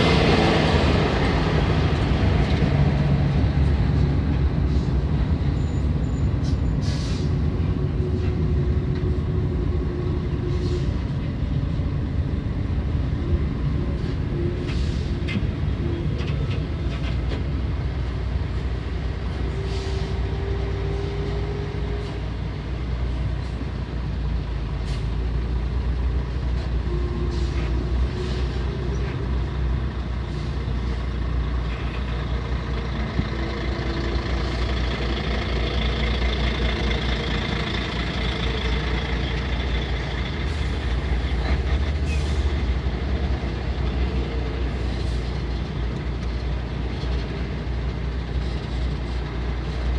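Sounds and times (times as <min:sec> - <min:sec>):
heavy truck engines rumbling: 0:00.0 - 0:49.9.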